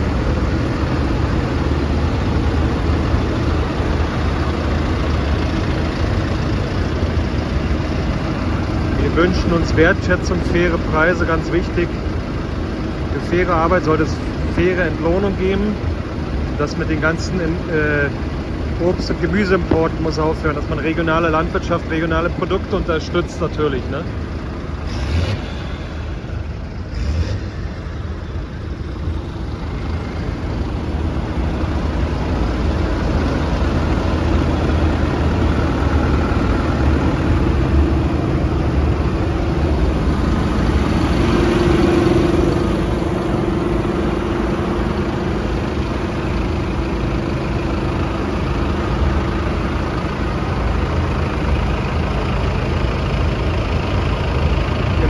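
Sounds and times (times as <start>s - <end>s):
tractor engines idling: 0.0s - 55.0s.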